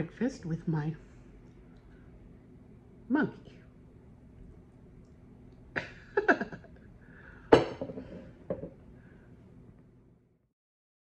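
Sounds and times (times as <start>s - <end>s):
faint room hum: 0.0s - 10.5s.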